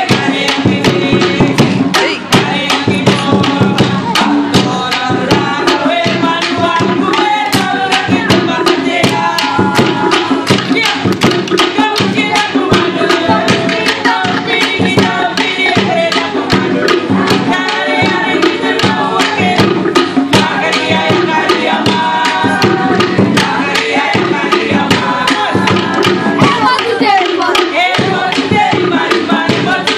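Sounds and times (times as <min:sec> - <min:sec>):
drums beating fast rhythm: 0:00.0 - 0:29.9
voices over drumming: 0:00.0 - 0:29.9.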